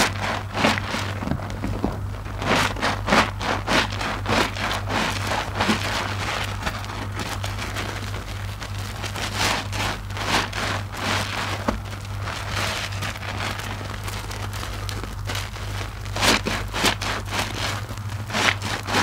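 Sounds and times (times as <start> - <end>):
foam fizzing crackle: 0.0 - 19.0
low steady hum: 0.0 - 19.0.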